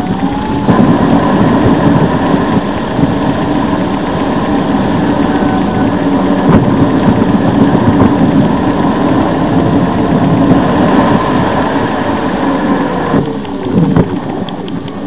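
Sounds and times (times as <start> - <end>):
car engine rumble: 0.0 - 15.0.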